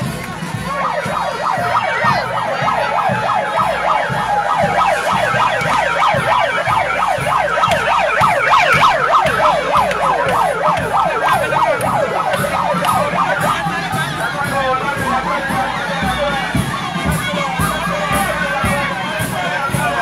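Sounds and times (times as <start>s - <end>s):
yelping siren: 0.5s - 20.0s.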